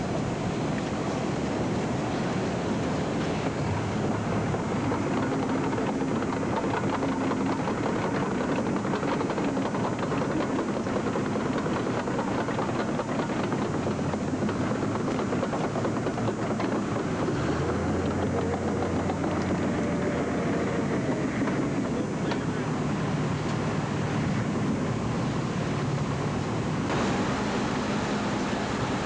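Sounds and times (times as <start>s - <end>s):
heavy tractor engine revving: 0.0s - 29.0s.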